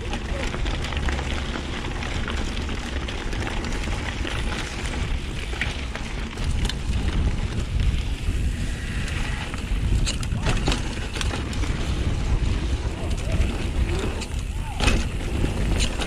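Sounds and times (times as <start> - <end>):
bike rattling: 0.0 - 16.0
bike tyres rolling on gravel: 0.0 - 16.0
wind rushing over microphone: 2.6 - 16.0.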